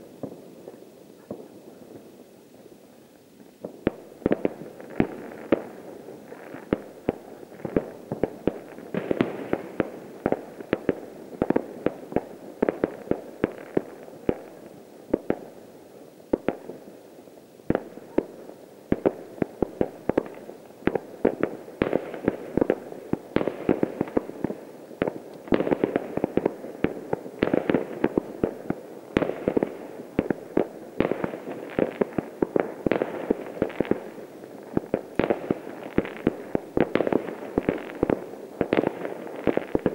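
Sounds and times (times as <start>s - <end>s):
distant fireworks bangs and pops: 0.2s - 2.1s, 3.6s - 15.6s, 16.3s - 16.9s, 17.7s - 39.9s.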